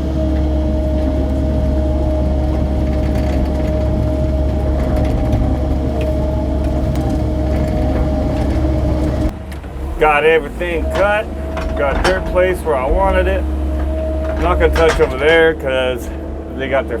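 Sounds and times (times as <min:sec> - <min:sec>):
excavator diesel engine running: 0:00.0 - 0:17.0
steady whine: 0:00.0 - 0:17.0
faint clanks in mud: 0:00.3 - 0:15.6.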